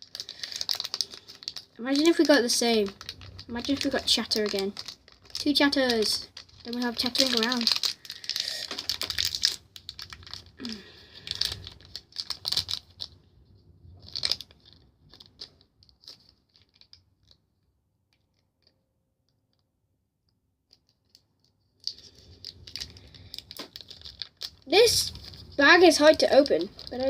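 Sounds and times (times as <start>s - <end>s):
foil bag crinkling: 0.0s - 13.2s, 14.0s - 17.4s, 21.8s - 27.0s.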